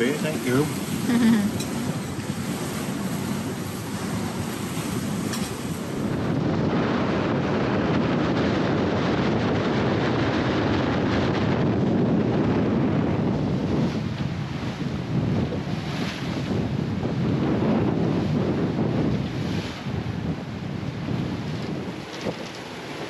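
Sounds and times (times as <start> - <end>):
rough sea rushing: 0.0 - 23.0
wind buffeting microphone: 0.0 - 23.0.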